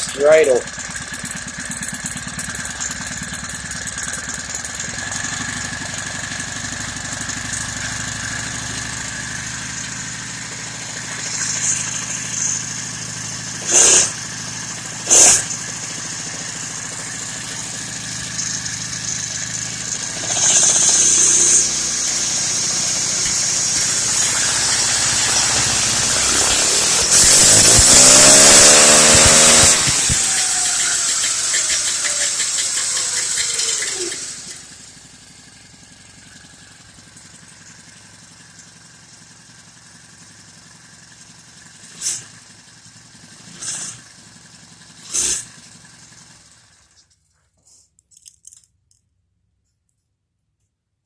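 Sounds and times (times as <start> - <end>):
small motorbike engine idling and revving: 0.0 - 47.4.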